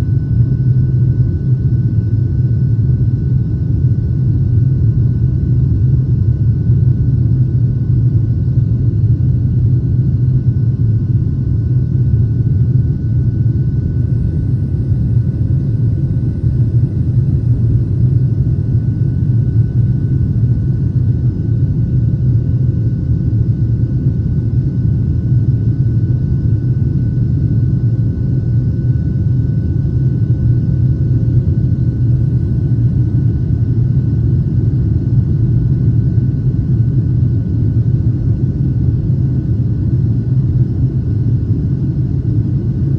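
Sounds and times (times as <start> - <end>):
airliner cabin low rumble: 0.0 - 42.9
faint steady whine: 0.0 - 42.9.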